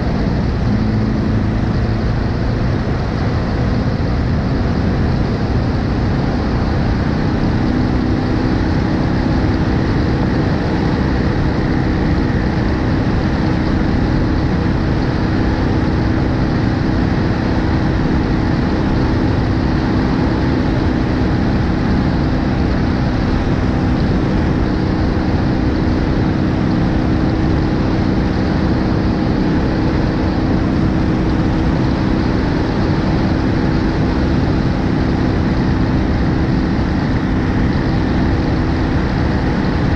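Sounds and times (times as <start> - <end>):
motorcycle engine droning: 0.0 - 39.9
wind rumble: 0.0 - 39.9.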